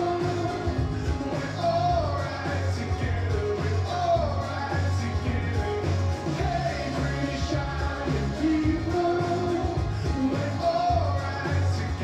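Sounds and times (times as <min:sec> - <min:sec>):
rock-pop song from vinyl record: 0:00.0 - 0:12.0
strong bass: 0:00.0 - 0:12.0.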